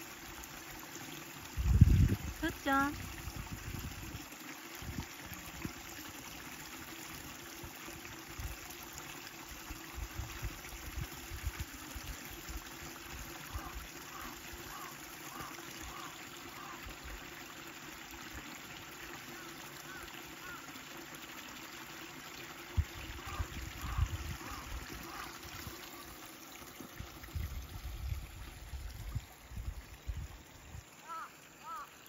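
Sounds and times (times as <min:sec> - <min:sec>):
flowing water rushing: 0:00.0 - 0:32.0.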